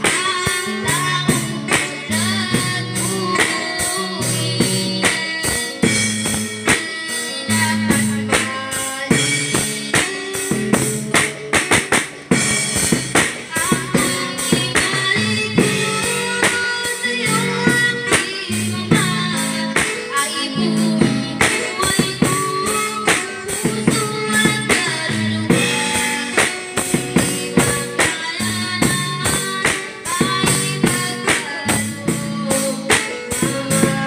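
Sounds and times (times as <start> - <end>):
drum kit beat: 0.0 - 34.0
girl singing into microphone: 0.0 - 34.0
guitar: 0.0 - 34.0.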